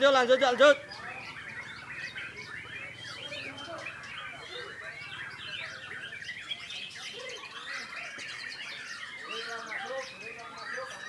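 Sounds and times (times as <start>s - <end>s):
chorus of birds singing: 0.0s - 11.0s.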